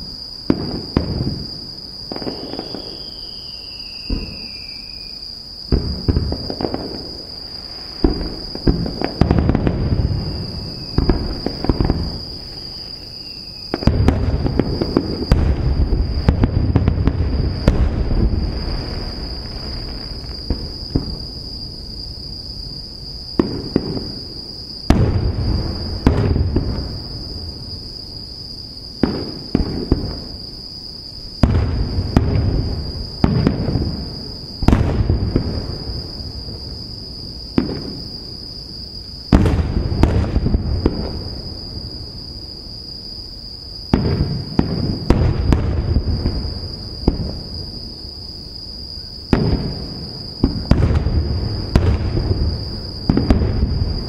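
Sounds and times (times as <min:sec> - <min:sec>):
firework crackle: 0:00.0 - 0:22.1, 0:23.3 - 0:28.0, 0:29.0 - 0:30.5, 0:31.2 - 0:38.6, 0:39.2 - 0:42.6, 0:43.9 - 0:48.1, 0:49.2 - 0:54.0.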